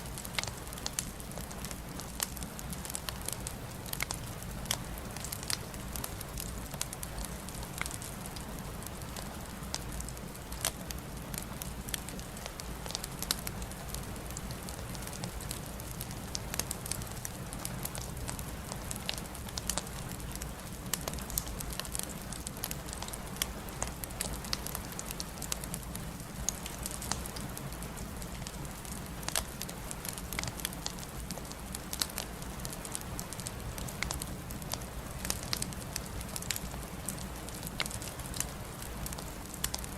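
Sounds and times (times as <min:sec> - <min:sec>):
crackling log fire: 0:00.0 - 0:39.9.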